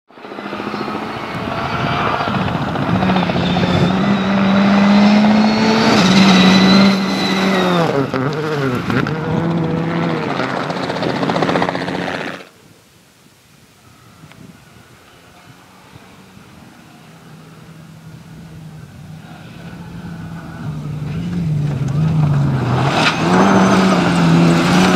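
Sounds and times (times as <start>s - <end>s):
rally car engine revving: 1.3s - 12.5s, 15.2s - 24.9s.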